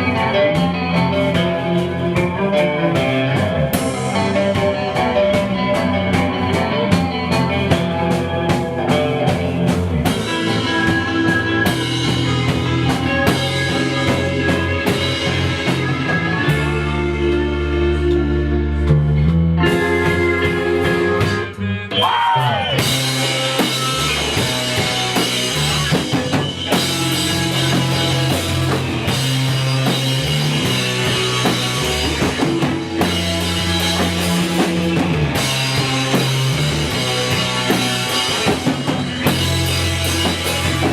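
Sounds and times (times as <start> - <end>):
drum kit: 0.0 - 40.9
rock band playing: 0.0 - 40.9.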